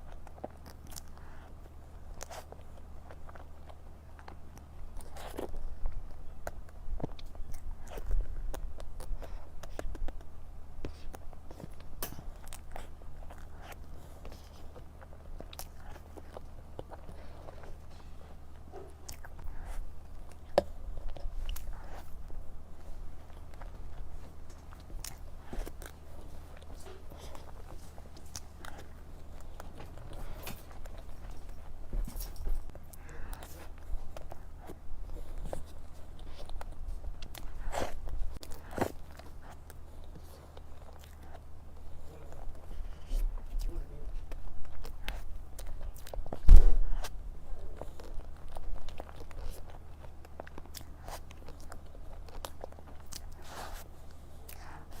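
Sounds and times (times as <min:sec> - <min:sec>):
low steady hum: 0:00.0 - 0:55.0
person chewing food: 0:00.0 - 0:55.0.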